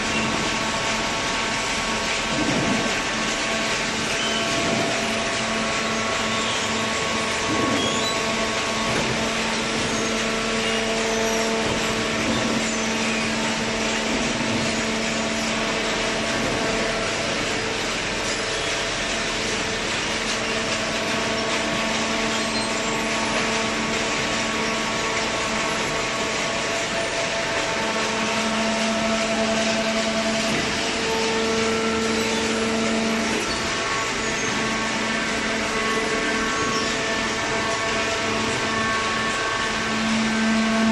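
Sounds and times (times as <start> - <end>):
baler machine hum: 0.0 - 40.9.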